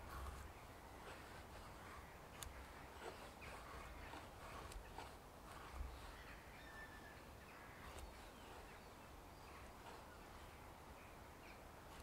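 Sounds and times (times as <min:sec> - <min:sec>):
knife scraping wood: 0:00.0 - 0:10.6.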